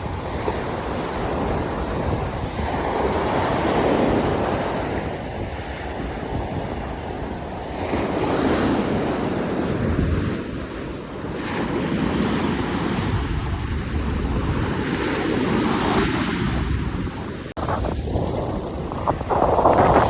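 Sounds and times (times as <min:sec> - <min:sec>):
ocean waves surging: 0:00.0 - 0:20.0
wind buffeting microphone: 0:00.0 - 0:20.0.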